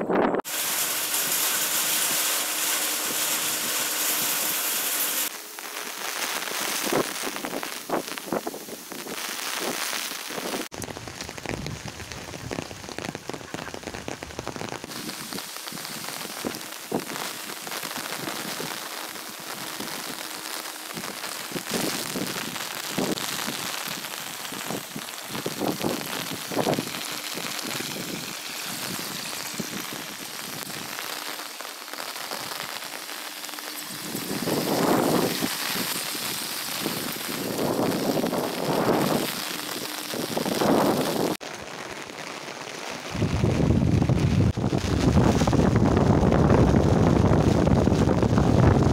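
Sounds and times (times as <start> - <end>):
rain falling steadily: 0.4 - 48.9.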